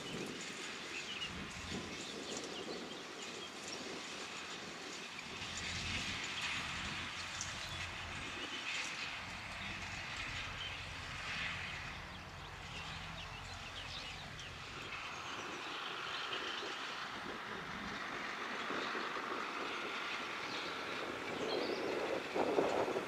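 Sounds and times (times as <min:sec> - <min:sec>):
tractor diesel engine running: 0:00.0 - 0:02.8, 0:05.2 - 0:23.0.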